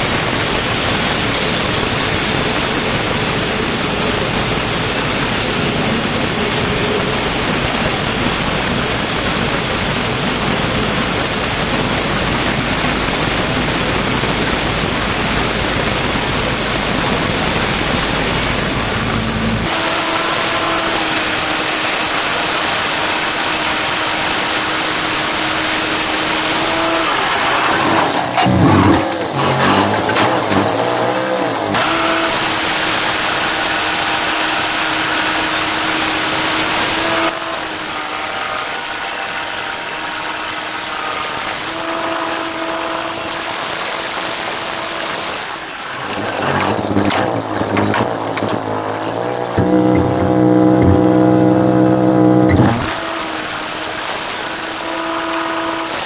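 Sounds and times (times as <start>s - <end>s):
machinery hum: 0.0s - 56.0s
sawmill machinery hissing: 0.0s - 56.0s.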